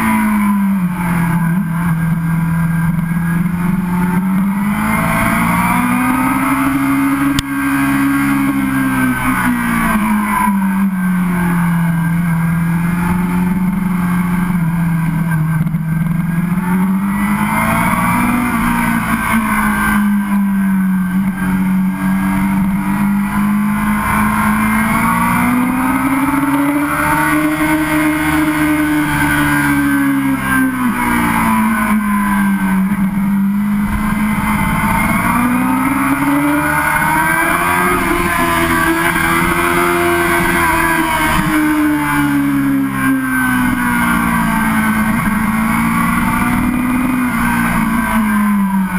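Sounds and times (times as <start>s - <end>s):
motorcycle engine: 0.0s - 48.9s
wind and road noise: 0.0s - 48.9s.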